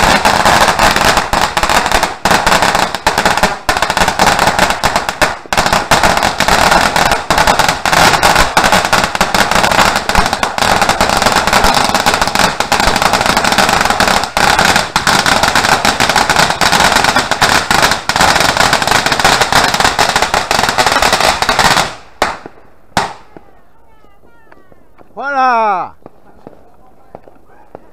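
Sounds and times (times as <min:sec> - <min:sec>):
firecrackers crackling: 0:00.0 - 0:27.9.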